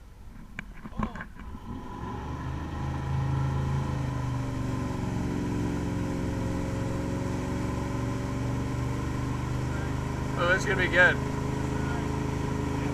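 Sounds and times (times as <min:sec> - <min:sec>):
boat engine accelerating: 0:01.1 - 0:12.9
water rushing: 0:01.4 - 0:12.9.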